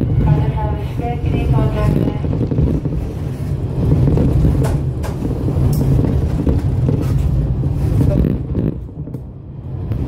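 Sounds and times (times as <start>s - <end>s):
railcar engine and running rumble: 0.0s - 10.0s.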